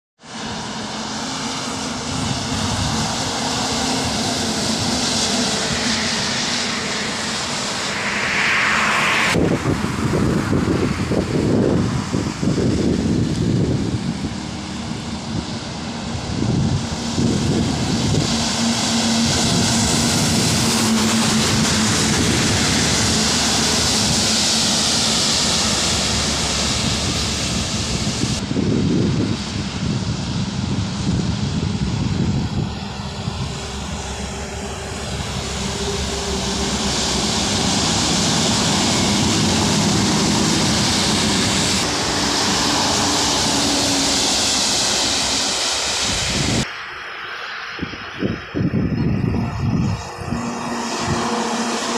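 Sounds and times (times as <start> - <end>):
truck diesel engines droning: 0.2 - 51.9
tyres hissing on wet road: 0.2 - 51.9.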